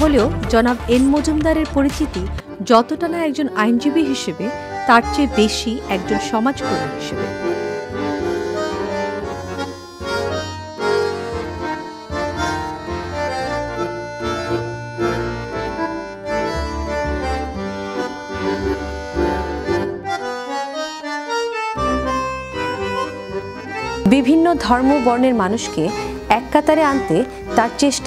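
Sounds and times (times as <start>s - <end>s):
bass line: 0.0s - 2.4s, 4.7s - 28.0s
reed instrument chords: 0.0s - 28.0s.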